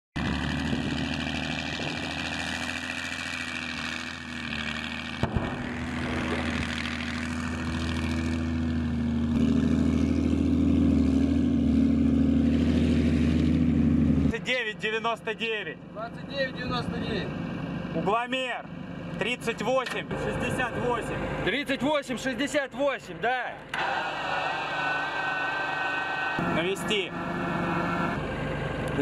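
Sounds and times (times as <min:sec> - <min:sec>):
diesel engine running: 0:00.2 - 0:29.0.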